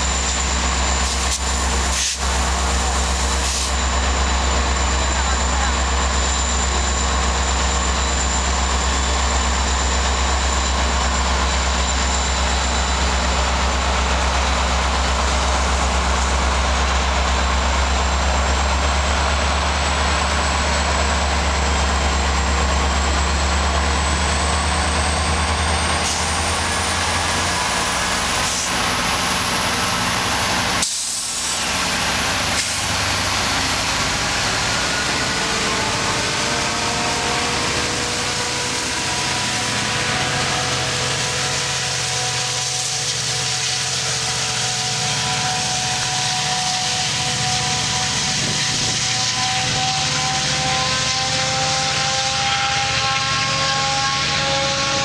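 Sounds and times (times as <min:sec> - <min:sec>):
diesel locomotive engine hum: 0:00.0 - 0:55.0
high whine rising in pitch: 0:00.0 - 0:55.0.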